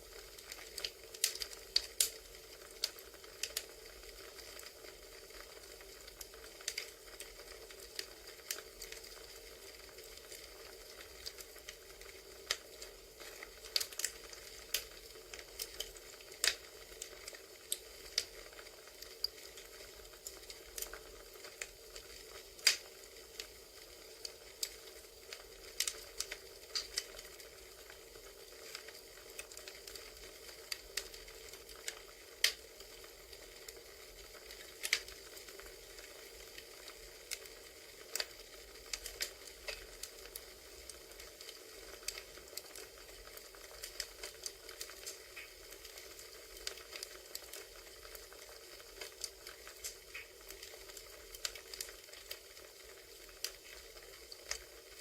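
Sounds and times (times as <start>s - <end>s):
campfire crackling: 0.0s - 55.0s
burning wood popping: 0.1s - 55.0s.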